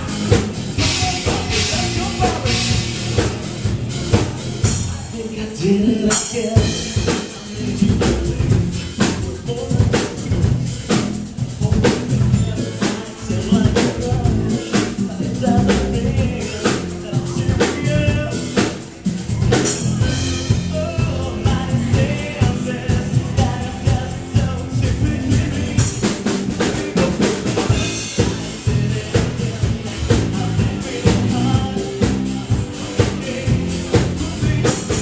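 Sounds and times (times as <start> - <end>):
man singing into microphone: 0.0 - 3.3, 4.6 - 35.0
drum kit beat: 0.0 - 35.0
live rock band playing: 0.0 - 35.0.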